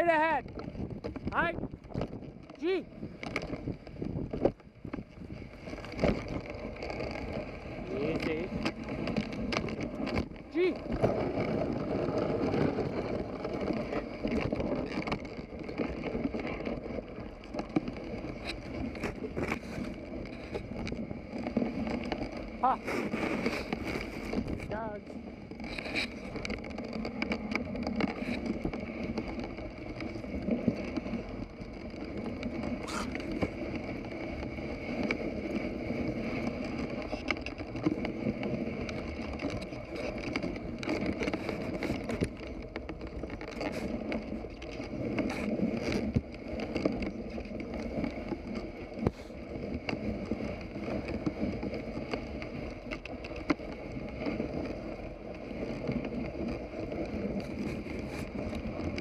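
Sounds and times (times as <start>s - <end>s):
sled runners scraping through snow: 0.0s - 59.0s.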